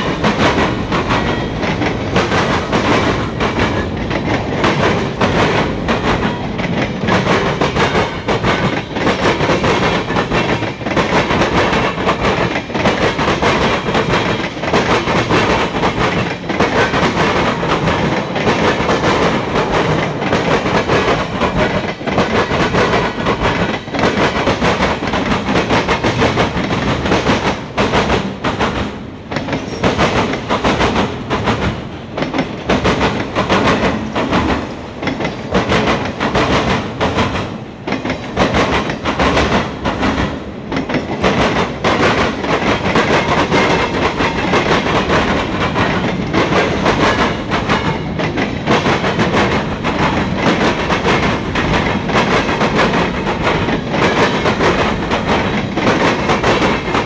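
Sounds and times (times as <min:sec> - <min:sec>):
clickety-clack over rail joints: 0:00.0 - 0:57.0
train wheels rumbling on rails: 0:00.0 - 0:57.0.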